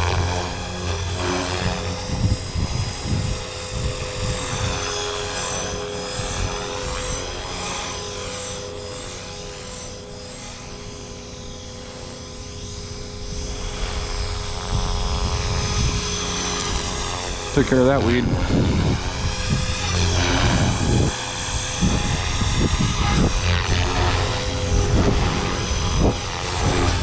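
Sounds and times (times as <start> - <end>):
rc helicopter rotor whine: 0.0 - 27.0.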